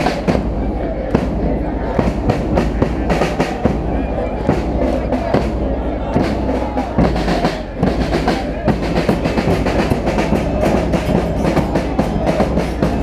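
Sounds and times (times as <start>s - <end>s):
drums beating fast rhythm: 0.0s - 13.0s
loud crowd: 0.0s - 13.0s.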